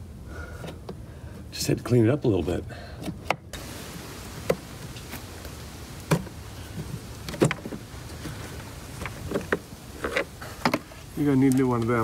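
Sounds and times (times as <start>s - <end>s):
steady faint hiss: 0.0s - 12.0s.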